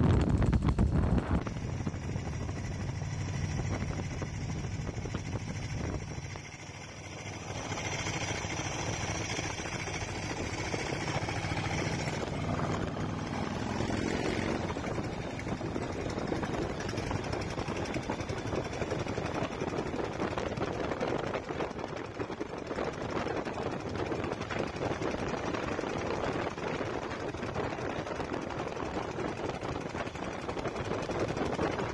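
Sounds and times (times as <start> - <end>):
motorcycle engine running: 0.0 - 31.9
road noise: 0.0 - 31.9
wind noise: 0.0 - 31.9.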